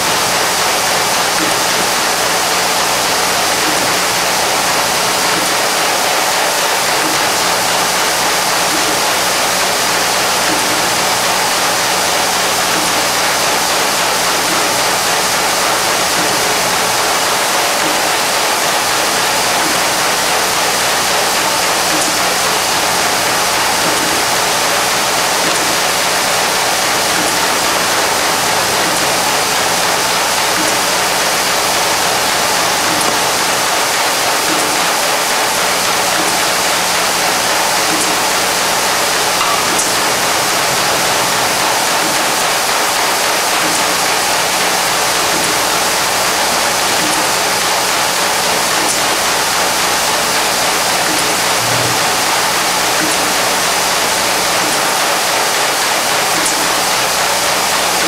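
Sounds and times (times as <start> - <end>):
machine running: 0.0 - 58.0.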